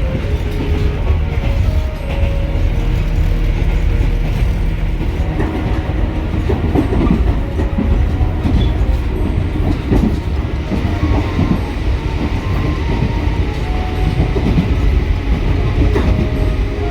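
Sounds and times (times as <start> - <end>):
train low rumble: 0.0 - 16.9.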